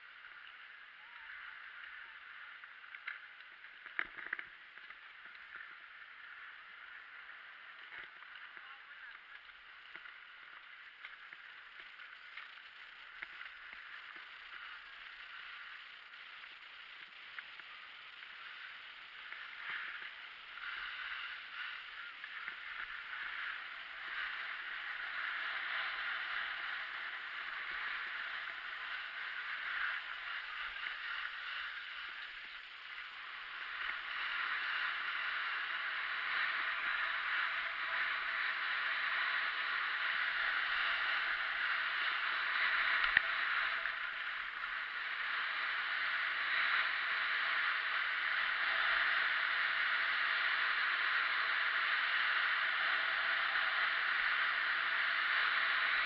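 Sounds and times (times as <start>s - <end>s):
skis scraping on snow: 0.0s - 56.0s.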